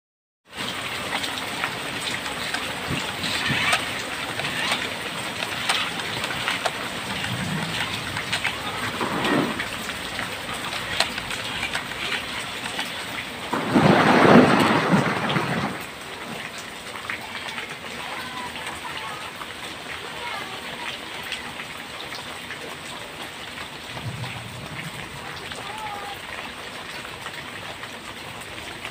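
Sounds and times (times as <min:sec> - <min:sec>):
heavy rain on puddles: 0:00.4 - 0:28.9.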